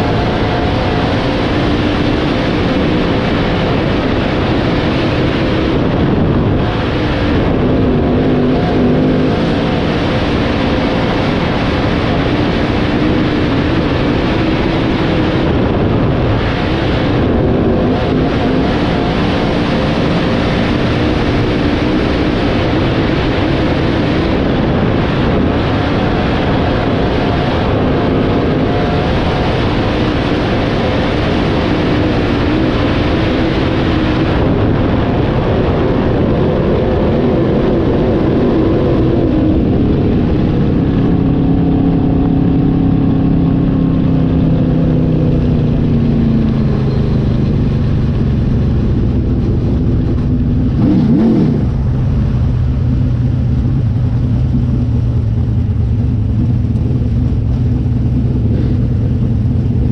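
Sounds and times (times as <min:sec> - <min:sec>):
race car engines running: 0:00.0 - 0:59.9.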